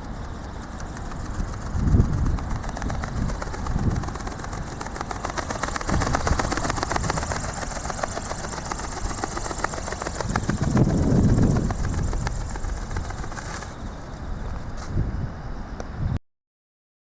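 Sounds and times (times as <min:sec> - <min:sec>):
fast run of ticks: 0:00.0 - 0:15.2
wind buffeting microphone: 0:00.0 - 0:16.2.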